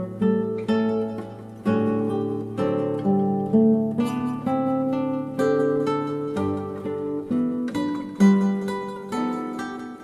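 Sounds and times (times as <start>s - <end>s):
acoustic guitar plucking: 0.0s - 10.0s.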